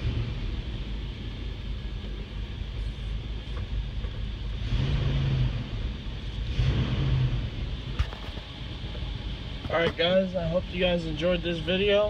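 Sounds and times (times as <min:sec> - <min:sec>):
pickup engine revving: 0:00.0 - 0:12.0.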